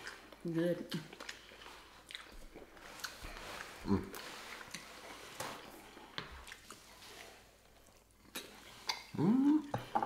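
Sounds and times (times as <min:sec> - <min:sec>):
chewing food: 0:00.0 - 0:09.7.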